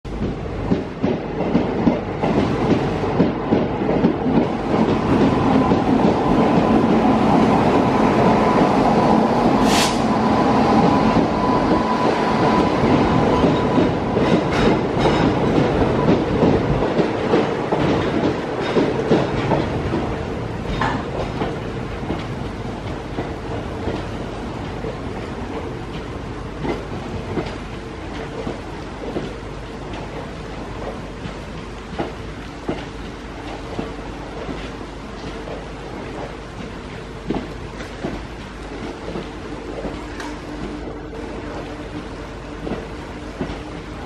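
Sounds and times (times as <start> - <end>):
train wheels clattering over rail joints: 0.1 - 8.8, 10.8 - 44.0.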